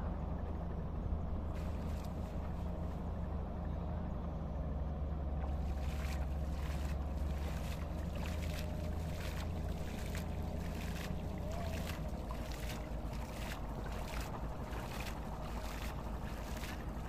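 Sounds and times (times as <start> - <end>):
steady low rumble: 0.0 - 17.0
water splashing and sloshing: 1.3 - 3.7, 5.2 - 17.0.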